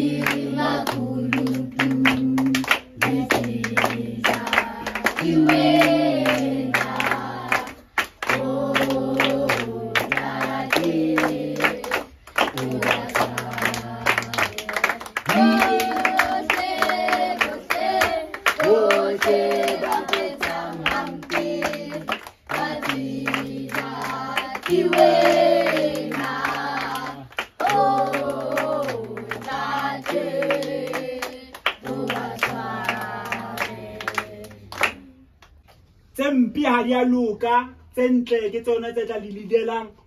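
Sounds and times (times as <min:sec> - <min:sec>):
hands clapping in time: 0:00.2 - 0:35.8.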